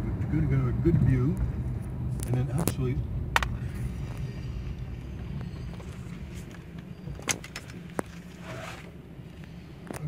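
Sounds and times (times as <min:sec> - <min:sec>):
car engine rumble inside cabin: 0:00.0 - 0:10.0.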